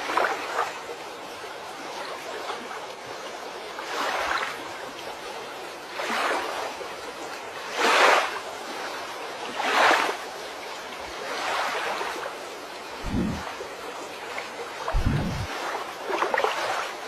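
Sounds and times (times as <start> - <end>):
river water washing in swells: 0.0 - 17.0
steady rushing water hiss: 0.0 - 17.0.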